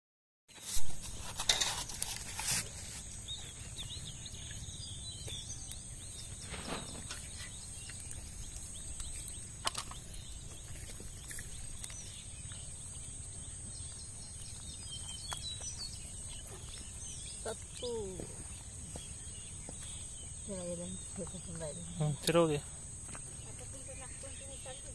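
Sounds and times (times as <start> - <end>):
faint bird chirps: 0.5 - 24.9.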